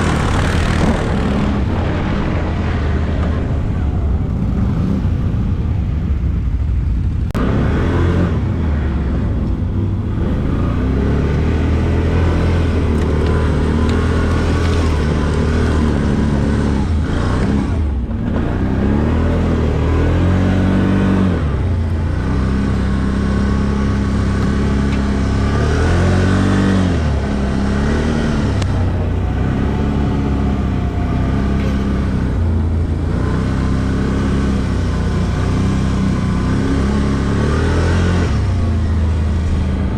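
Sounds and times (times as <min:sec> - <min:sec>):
atv engine revving: 0:00.0 - 0:06.4, 0:07.3 - 0:39.9.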